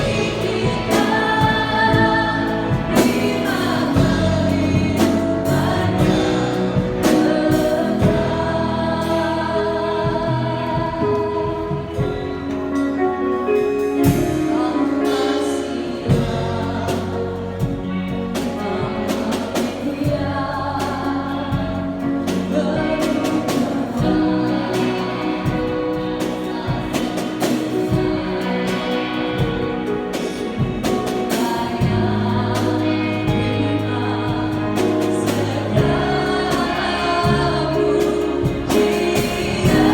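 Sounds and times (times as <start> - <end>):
choir singing: 0.0 - 39.9
instrumental accompaniment: 0.0 - 39.9.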